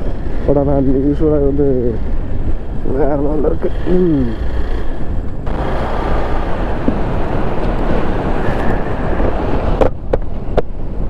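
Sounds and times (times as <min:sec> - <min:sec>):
wind roaring on microphone: 0:00.0 - 0:11.0.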